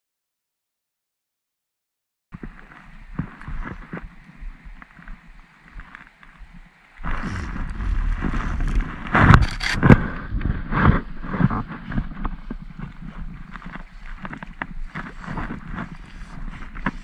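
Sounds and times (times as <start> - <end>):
low wind rumble: 2.4 - 17.0
rustling against microphone: 2.4 - 17.0.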